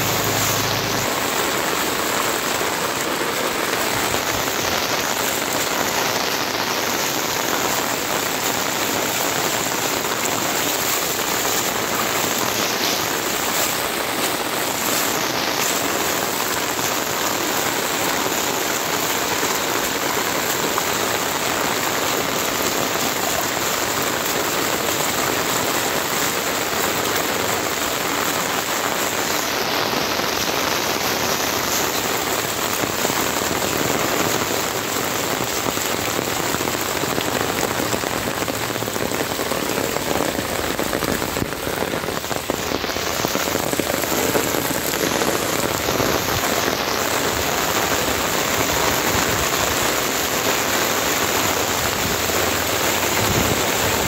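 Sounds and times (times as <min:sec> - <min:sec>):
heavy rain on flooded road: 0:00.0 - 0:54.0.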